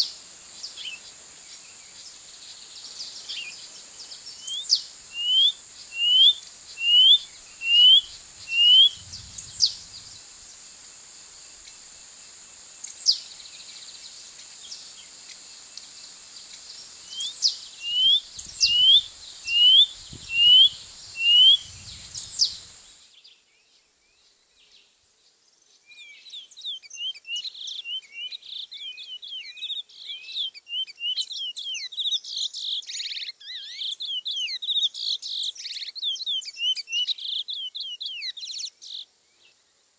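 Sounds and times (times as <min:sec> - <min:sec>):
bird chirping: 0:00.0 - 0:10.7, 0:12.8 - 0:39.7
chorus of birds chirping: 0:00.0 - 0:11.9, 0:12.6 - 0:23.2, 0:26.0 - 0:39.6
insect hiss: 0:00.0 - 0:39.9.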